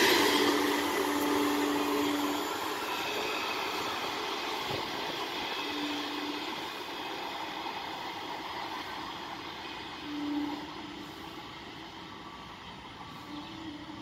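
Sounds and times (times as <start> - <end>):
train rumble and wheel noise: 0.0 - 14.0.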